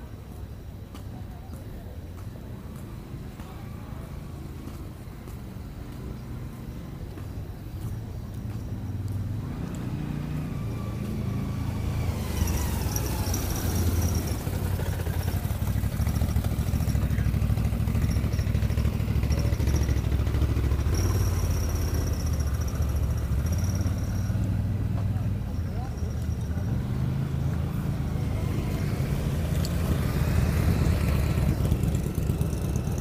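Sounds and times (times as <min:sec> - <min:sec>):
vehicle engines driving slowly past: 0:00.0 - 0:33.0.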